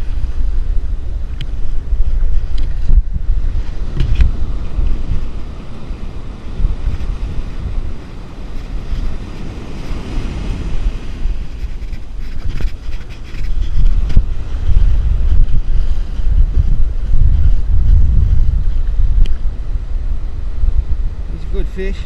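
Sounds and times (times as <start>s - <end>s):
small surf washing up beach: 0.0s - 17.8s, 18.4s - 22.0s
wind buffeting microphone: 0.0s - 22.0s.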